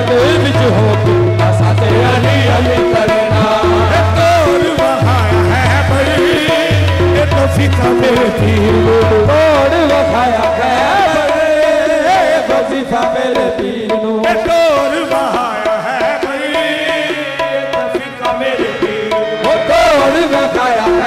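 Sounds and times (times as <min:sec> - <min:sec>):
harmonium notes: 0:00.0 - 0:21.0
person singing ornamented vocals: 0:00.0 - 0:21.0
tabla drumming: 0:00.0 - 0:21.0.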